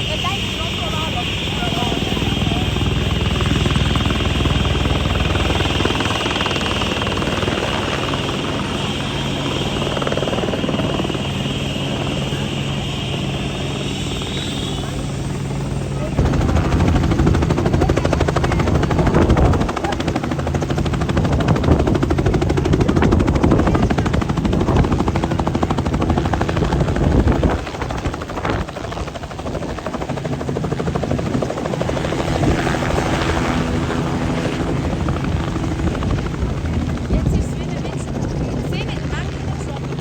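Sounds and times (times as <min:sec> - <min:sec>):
helicopter rotor chopping: 0:00.0 - 0:40.0.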